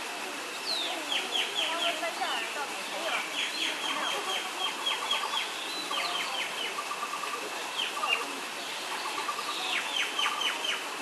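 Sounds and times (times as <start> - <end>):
birds calling: 0.6 - 11.0.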